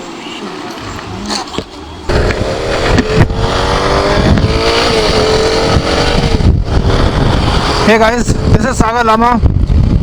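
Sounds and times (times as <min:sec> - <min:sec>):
wind rumble on microphone: 0:01.0 - 0:10.0
motorcycle engine running: 0:01.6 - 0:10.0.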